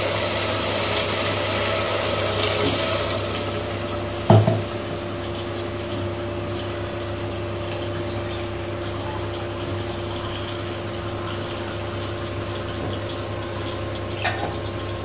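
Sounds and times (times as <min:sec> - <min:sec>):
water bubbling in a pot: 0:00.0 - 0:15.0.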